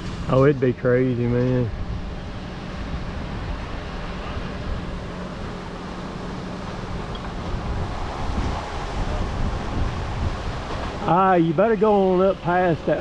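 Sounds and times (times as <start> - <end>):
crane engine humming: 0.0 - 13.0
wind noise on microphone: 0.0 - 13.0.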